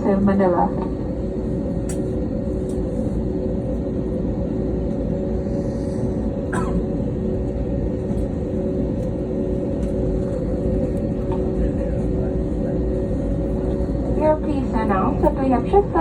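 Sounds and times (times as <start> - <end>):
airliner cabin rumble: 0.0 - 16.0
engine and air-system hum: 0.0 - 16.0.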